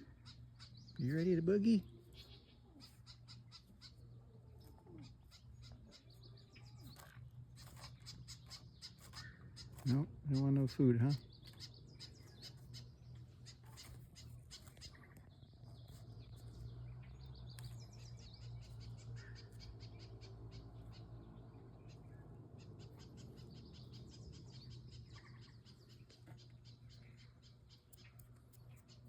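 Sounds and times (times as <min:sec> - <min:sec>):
birds chirping: 0:00.0 - 0:29.0
steady low hum: 0:00.0 - 0:29.0.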